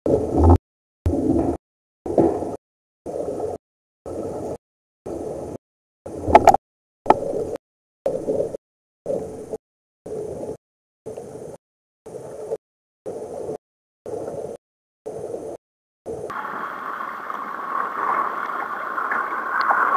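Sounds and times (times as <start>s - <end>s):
sea water: 0.0s - 19.9s.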